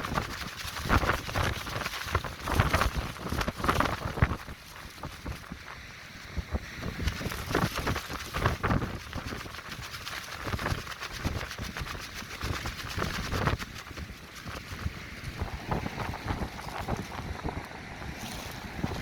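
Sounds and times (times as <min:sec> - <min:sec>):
plastic sheeting flapping and crackling: 0:00.0 - 0:19.0
wind buffeting microphone: 0:00.0 - 0:19.0.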